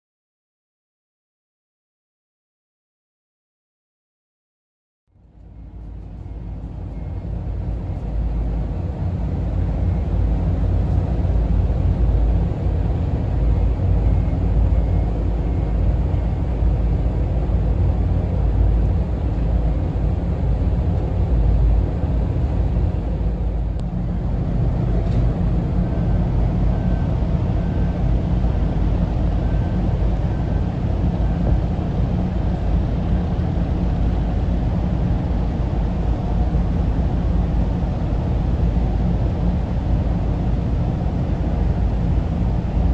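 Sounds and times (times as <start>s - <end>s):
ferry engines rumbling: 5.2s - 42.9s.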